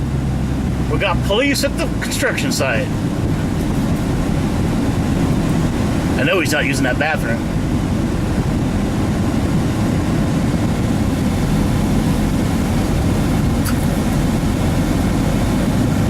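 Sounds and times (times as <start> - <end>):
truck engine and tyre rumble: 0.0 - 16.0.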